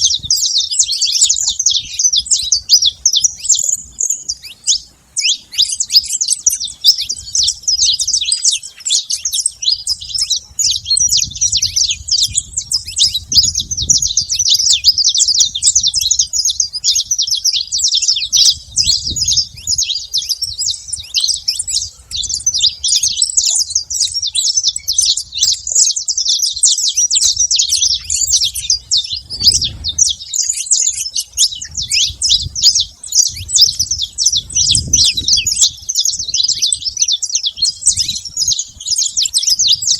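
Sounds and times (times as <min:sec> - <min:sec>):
finch chirps and trills: 0:00.0 - 0:39.9.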